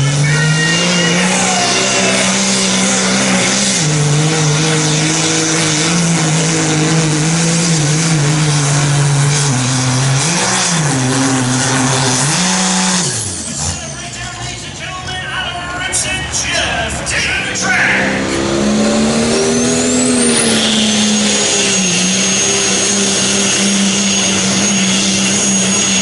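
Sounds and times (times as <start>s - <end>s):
diesel truck engine at full throttle: 0.0s - 26.0s.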